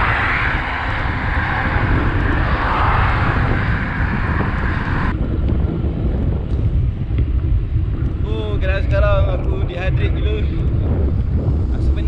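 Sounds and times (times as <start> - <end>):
road noise rumble: 0.0 - 12.0
wind buffeting microphone: 0.0 - 12.0.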